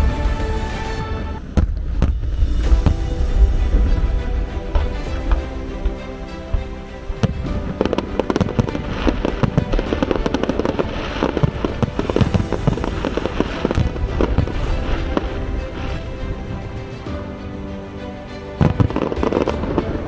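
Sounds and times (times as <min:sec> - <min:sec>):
fireworks bangs and crackles: 0:00.0 - 0:05.9, 0:06.5 - 0:17.1
music playing: 0:00.0 - 0:20.0.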